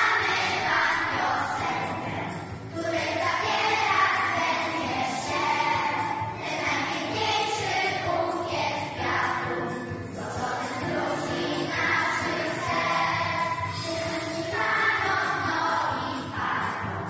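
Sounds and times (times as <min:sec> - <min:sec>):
children singing as a choir: 0:00.0 - 0:17.0.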